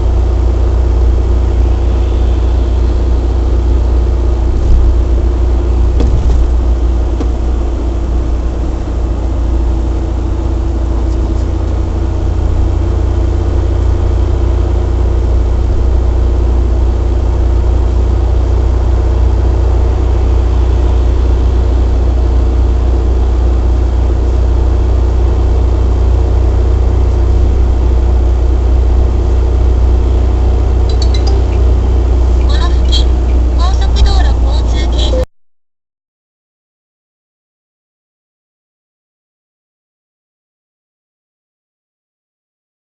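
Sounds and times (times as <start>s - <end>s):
humming drone: 0.0s - 35.2s
car driving low rumble: 0.0s - 35.3s.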